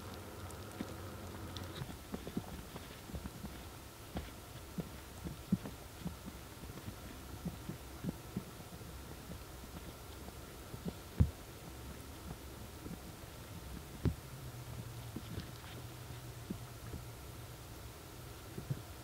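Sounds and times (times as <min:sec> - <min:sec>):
heater humming: 0:00.0 - 0:19.0.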